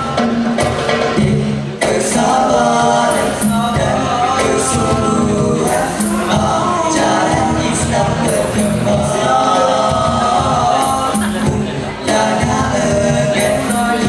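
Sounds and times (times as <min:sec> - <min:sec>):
hand drum percussion: 0:00.0 - 0:14.0
male voices singing together: 0:00.0 - 0:14.0.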